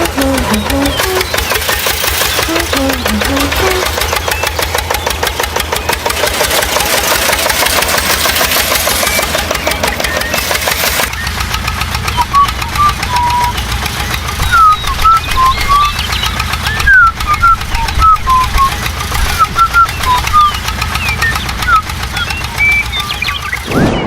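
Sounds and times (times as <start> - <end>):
small engine knocking: 0.0 - 23.7.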